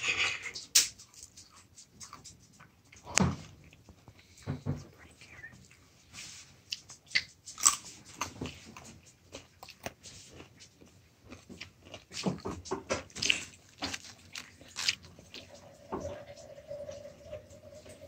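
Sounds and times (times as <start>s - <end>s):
crunching and chewing crisp food: 0.0s - 17.0s.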